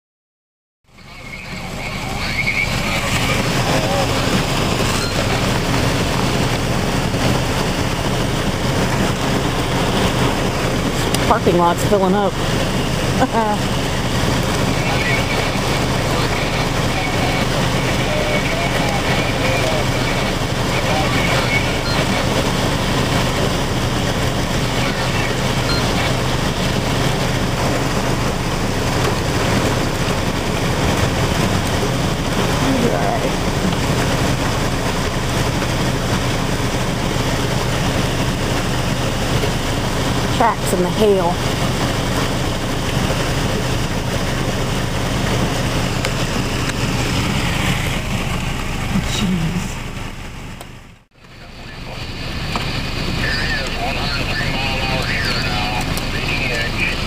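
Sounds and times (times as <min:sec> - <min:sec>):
low steady hum: 0:00.9 - 0:57.0
hail and rain hitting a vehicle: 0:01.6 - 0:49.4.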